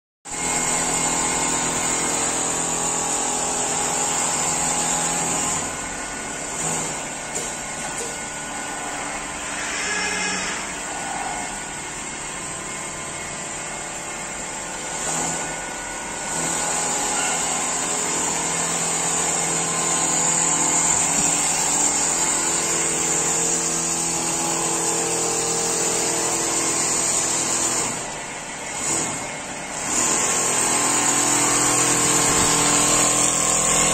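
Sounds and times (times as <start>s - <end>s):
quilting machine whirring: 0.3s - 33.9s.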